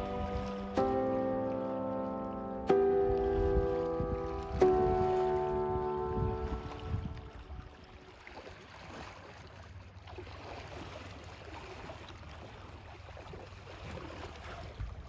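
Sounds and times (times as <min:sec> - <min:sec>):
river water lapping: 0:00.0 - 0:15.0.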